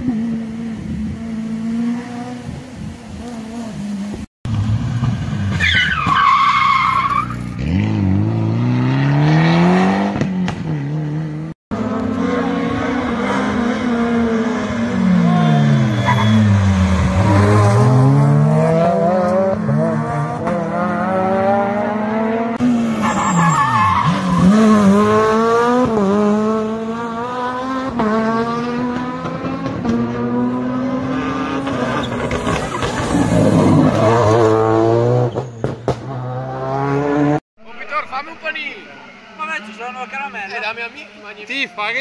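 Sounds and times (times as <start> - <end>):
rally car engines revving: 0.0 - 37.4.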